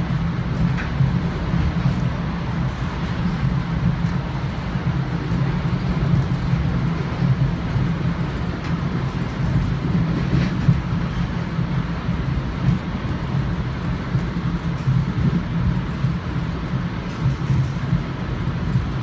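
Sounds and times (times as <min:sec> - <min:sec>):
train rumble and rail noise: 0:00.0 - 0:19.0.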